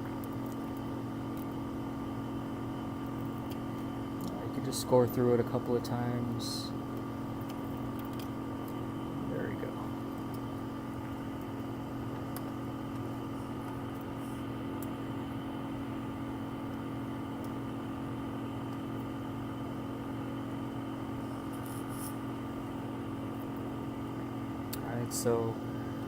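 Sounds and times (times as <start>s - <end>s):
vacuum pump motor hum: 0.0s - 26.0s.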